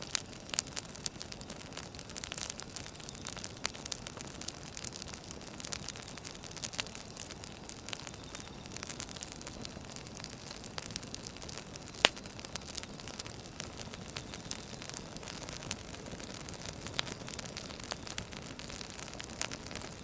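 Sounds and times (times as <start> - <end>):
firewood burning and crackling: 0.0 - 20.0.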